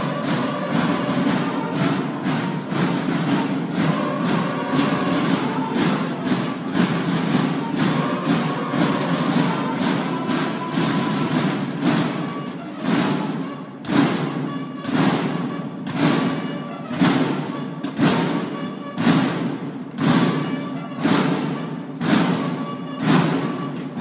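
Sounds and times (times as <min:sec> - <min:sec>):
accented drum strikes echoing: 0:00.0 - 0:24.0
drum line playing: 0:00.0 - 0:24.0.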